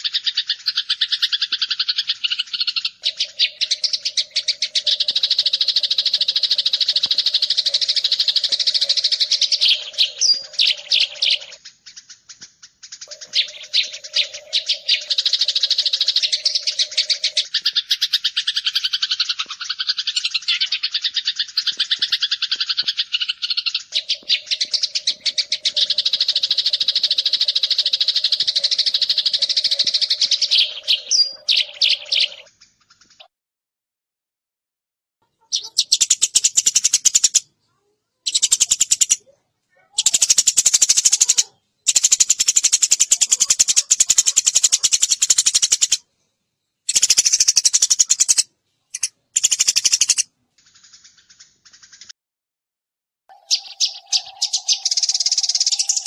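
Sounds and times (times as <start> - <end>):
sparrows chirping: 0.0 - 33.3, 35.2 - 46.0, 46.6 - 52.1, 53.3 - 56.0.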